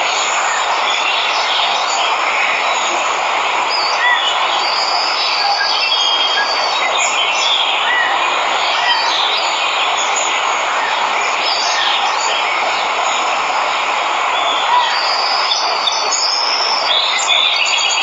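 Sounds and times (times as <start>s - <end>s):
birds chirping: 0.0s - 18.0s
waterfall rushing: 0.0s - 18.0s.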